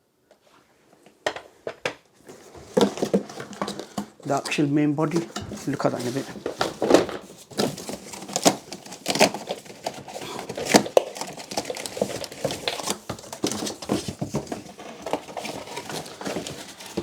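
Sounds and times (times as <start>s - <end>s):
packaging rustling and crinkling: 1.3s - 17.0s.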